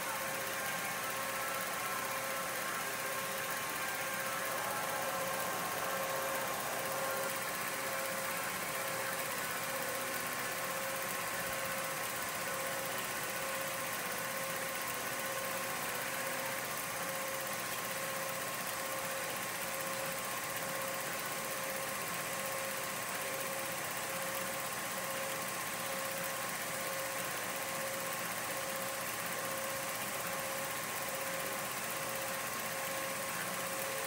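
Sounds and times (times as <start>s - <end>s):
film projector humming: 0.0s - 34.0s.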